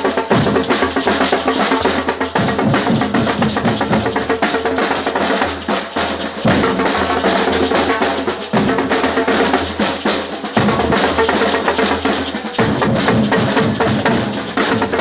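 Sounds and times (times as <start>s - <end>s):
samba percussion ensemble: 0.0s - 15.0s.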